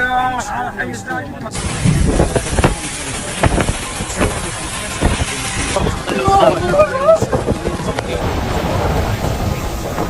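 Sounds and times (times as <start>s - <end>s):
deep low rumble: 1.6s - 10.0s
heavy rain downpour: 1.6s - 10.0s.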